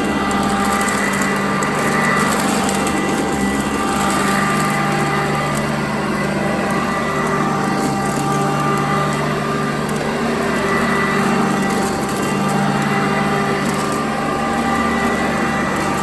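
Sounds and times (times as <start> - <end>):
vacuum cleaner running on carpet: 0.0 - 16.0.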